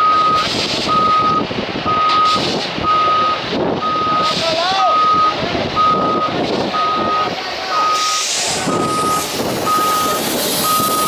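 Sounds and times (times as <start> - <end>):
machinery noise: 0.0 - 11.0
reversing alarm beeping: 0.0 - 11.0
voices: 2.0 - 11.0.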